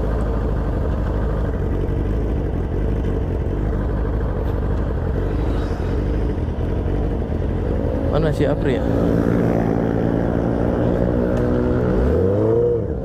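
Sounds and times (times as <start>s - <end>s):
motorcycle engine running: 0.0s - 12.1s.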